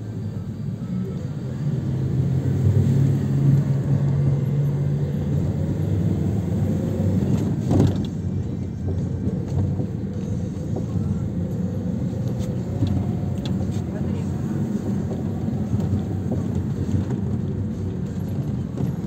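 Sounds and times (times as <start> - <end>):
minibus engine and road rumble: 0.0 - 19.0.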